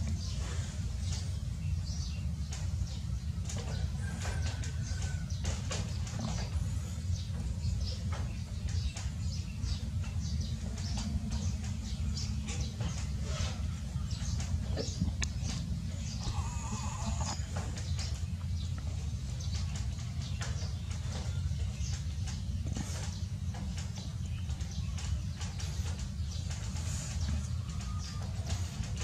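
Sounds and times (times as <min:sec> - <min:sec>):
small irregular clicks and ticks: 0:00.0 - 0:29.0
steady low rumble: 0:00.0 - 0:29.0.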